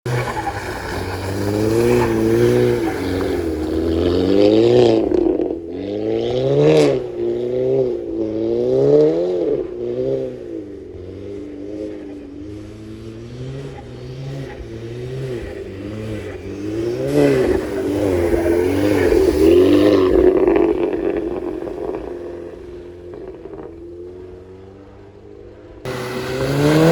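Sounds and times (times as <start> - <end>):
car engine revving: 0.1 - 26.9.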